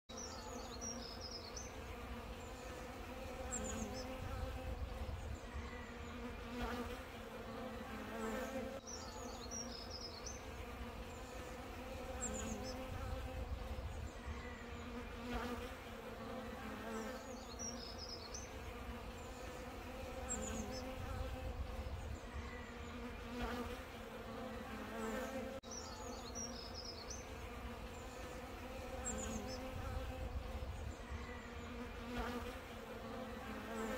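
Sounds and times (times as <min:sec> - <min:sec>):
bees buzzing: 0:00.1 - 0:33.9.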